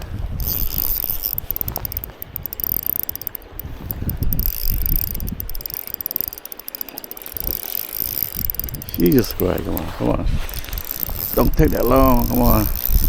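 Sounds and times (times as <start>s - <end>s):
wind rumble on microphone: 0.0s - 5.8s, 7.2s - 13.0s
fishing reel clicking: 0.0s - 13.0s.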